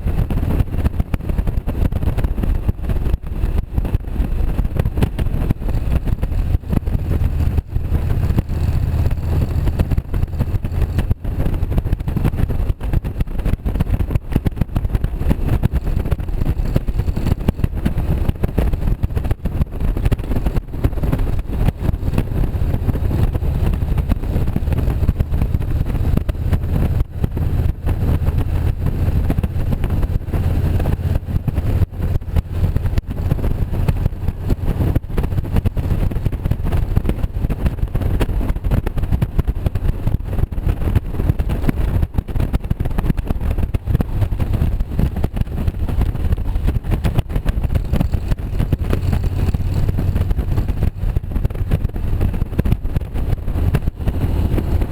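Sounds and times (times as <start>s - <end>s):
motorcycle engine droning: 0.0s - 54.9s
road and wind noise: 0.0s - 54.9s.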